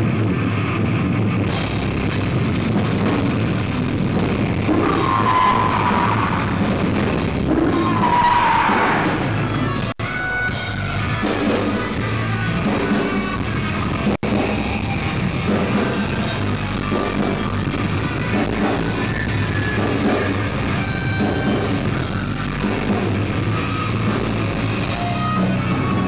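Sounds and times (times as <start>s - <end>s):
electric guitar: 0.0s - 26.0s
rock band playing live: 0.0s - 26.0s.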